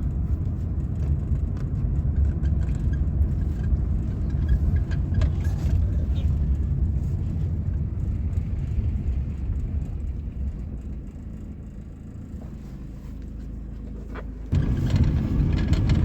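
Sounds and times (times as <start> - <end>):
road rumble inside car: 0.0 - 16.0.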